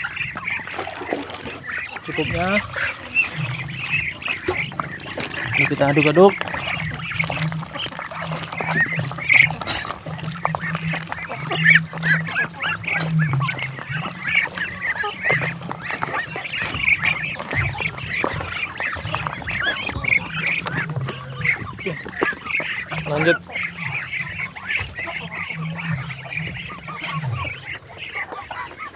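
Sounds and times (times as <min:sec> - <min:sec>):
bills pecking in a basin: 0:00.0 - 0:28.9
ducks calling: 0:00.0 - 0:28.9.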